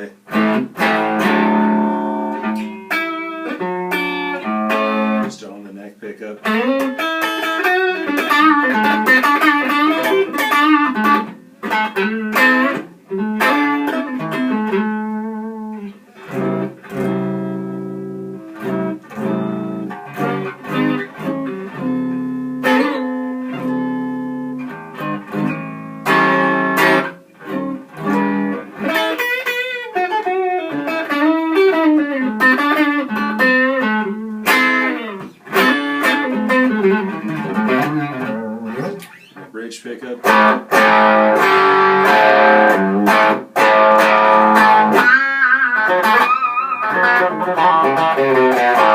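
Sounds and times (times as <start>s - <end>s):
clean electric guitar: 0.0s - 48.9s.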